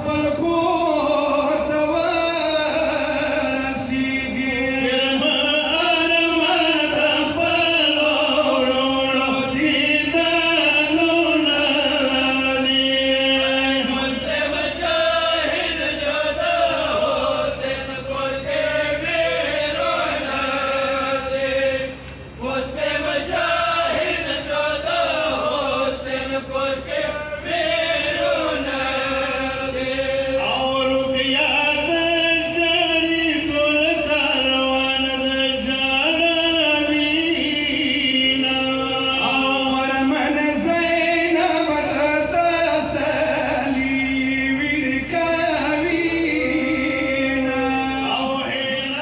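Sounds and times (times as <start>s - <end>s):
men chanting a lament: 0.0s - 49.0s.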